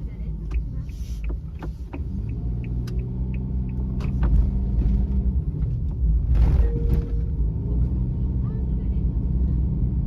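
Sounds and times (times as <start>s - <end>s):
engine and road rumble: 0.0s - 10.0s
engine hum: 0.0s - 10.0s.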